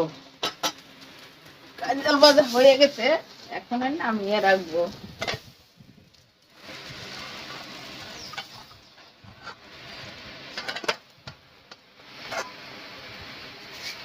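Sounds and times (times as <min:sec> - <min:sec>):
food sizzling in frying pan: 0:00.0 - 0:14.0.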